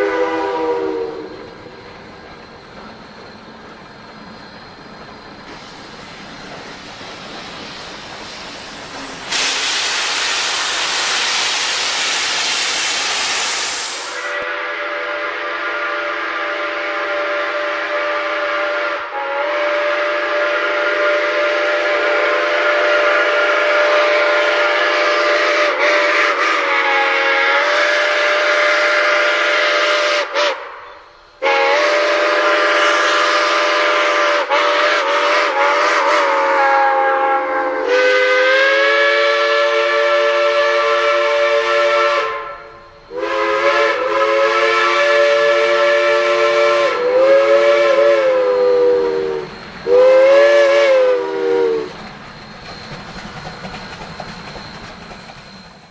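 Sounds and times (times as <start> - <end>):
steam locomotive whistle blasts: 0.0 - 1.8, 9.0 - 52.0.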